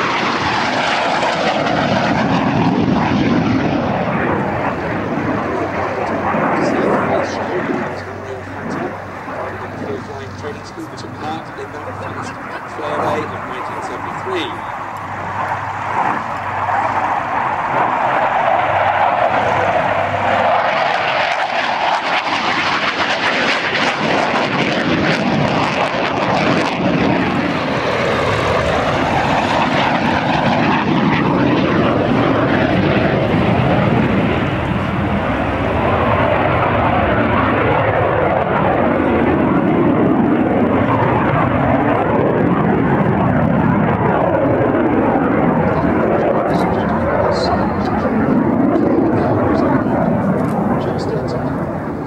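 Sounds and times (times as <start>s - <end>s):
jet aircraft flying overhead: 0.0s - 52.0s.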